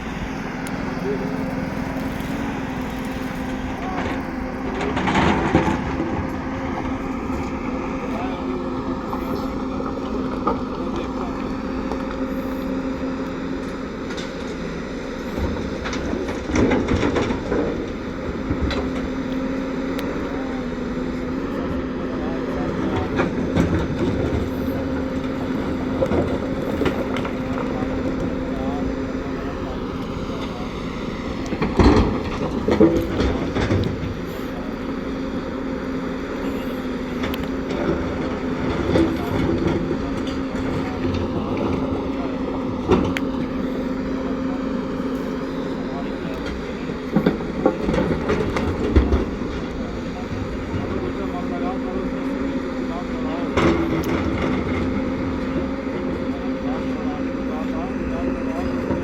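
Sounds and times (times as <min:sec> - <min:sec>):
bulldozer engine running: 0:00.0 - 0:59.0.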